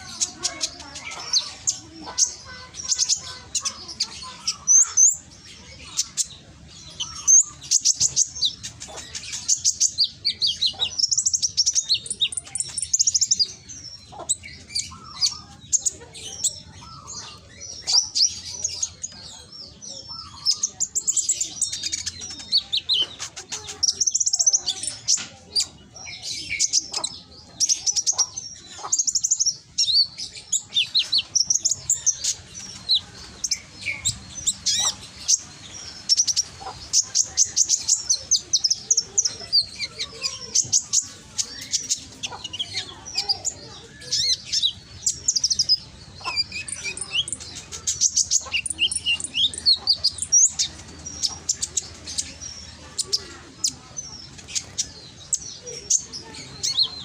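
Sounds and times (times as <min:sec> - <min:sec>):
bird singing chirps and trills: 0:00.0 - 0:57.0.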